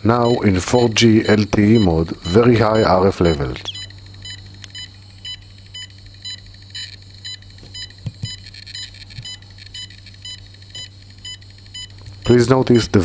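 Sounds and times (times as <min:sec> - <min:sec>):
meter beeping pips: 0:00.0 - 0:13.0.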